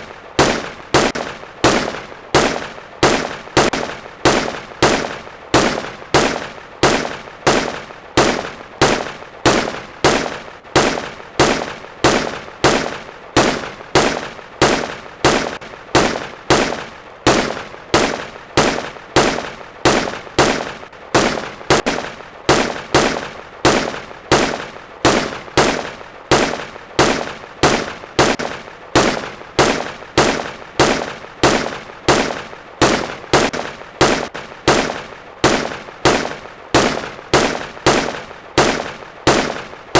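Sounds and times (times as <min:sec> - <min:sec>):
rifle shots cracking: 0:00.0 - 0:39.9.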